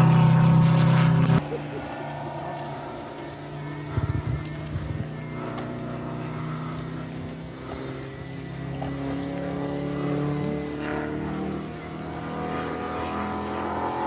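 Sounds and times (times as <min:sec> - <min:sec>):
model airplane engine droning: 0:00.0 - 0:14.0.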